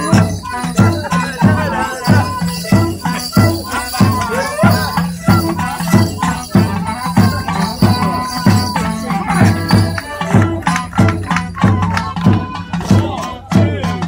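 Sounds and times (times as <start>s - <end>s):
folk band playing a tune: 0.0s - 14.0s.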